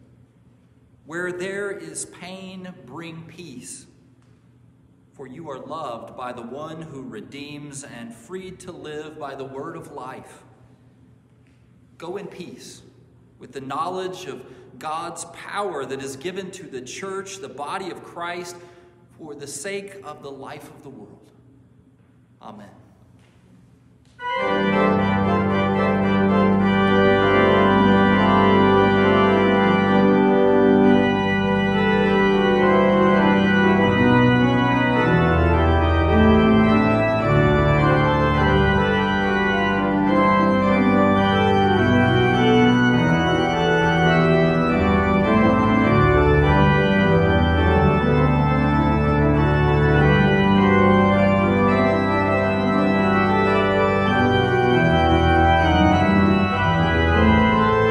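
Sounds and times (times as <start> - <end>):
church organ playing chords: 1.0 - 4.0, 5.1 - 10.8, 12.0 - 21.0, 24.1 - 57.9.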